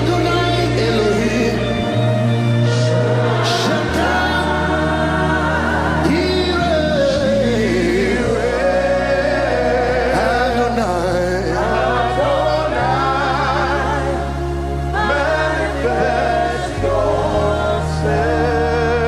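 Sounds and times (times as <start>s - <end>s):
slow gospel music: 0.0s - 19.0s.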